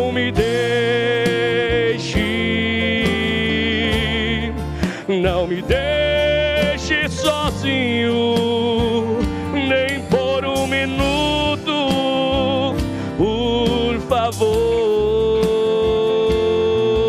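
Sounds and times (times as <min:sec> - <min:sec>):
keyboard and bass accompaniment: 0:00.0 - 0:17.0
man singing with vibrato: 0:00.0 - 0:17.0.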